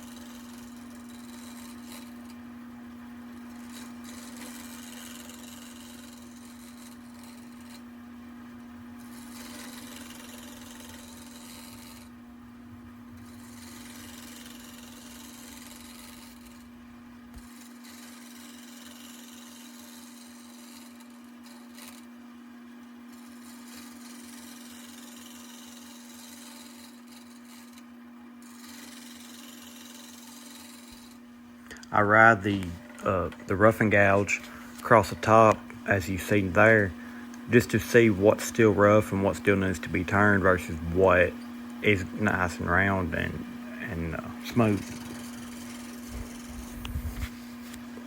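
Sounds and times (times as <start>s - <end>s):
gouge scraping spinning wood: 0.0s - 48.0s
wood lathe humming: 0.0s - 48.0s.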